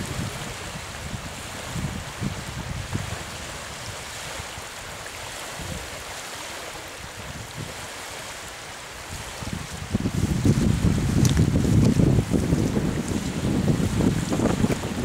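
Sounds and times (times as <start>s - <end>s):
wind buffeting microphone: 0.0s - 6.2s, 7.0s - 15.0s
lake water lapping on shore: 0.0s - 15.0s.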